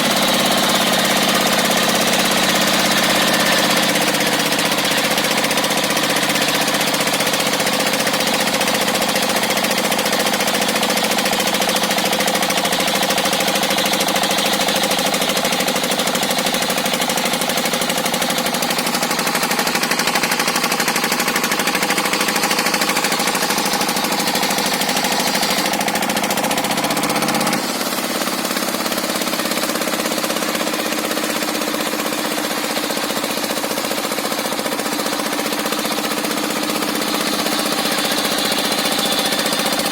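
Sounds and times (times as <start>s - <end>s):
circular sawmill whining: 0.0s - 39.9s.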